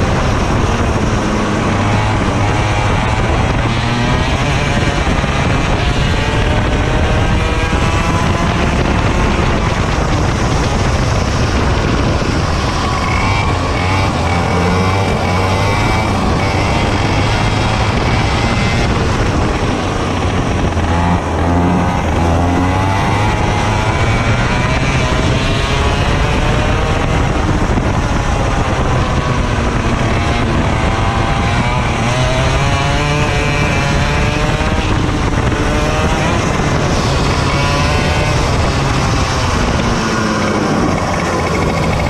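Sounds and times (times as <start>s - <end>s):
racing kart engine: 0.0s - 42.0s.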